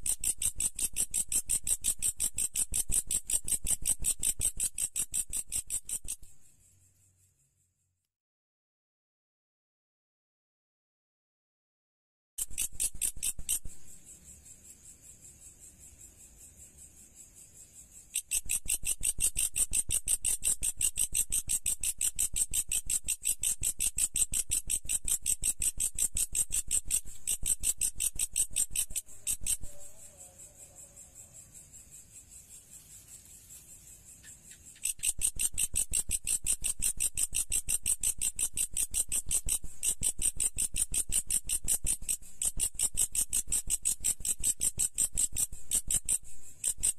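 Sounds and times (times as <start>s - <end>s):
insect chirping: 0.0s - 8.1s, 12.4s - 46.9s.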